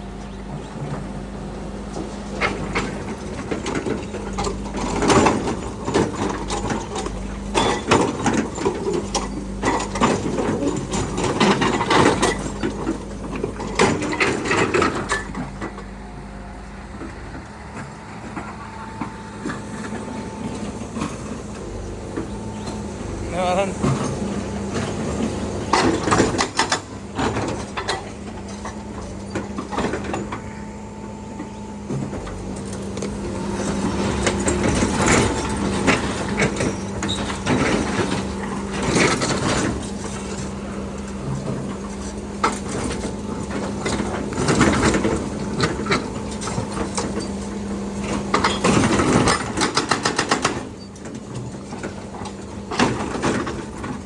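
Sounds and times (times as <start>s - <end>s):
excavator engine running: 0.0s - 54.0s
machine clanks and scrapes: 1.9s - 16.0s, 17.0s - 54.0s.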